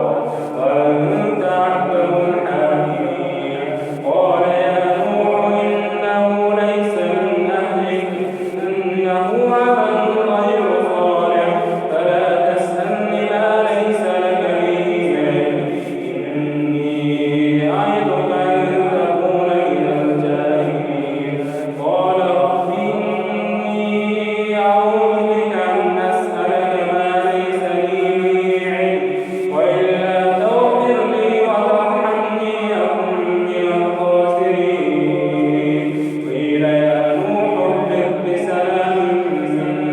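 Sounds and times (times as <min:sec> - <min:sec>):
man chanting recitation: 0:00.0 - 0:39.9.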